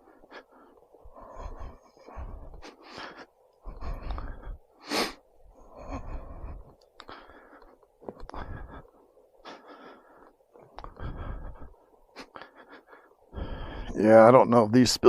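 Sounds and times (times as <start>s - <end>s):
person breathing close to microphone: 0.0s - 14.0s.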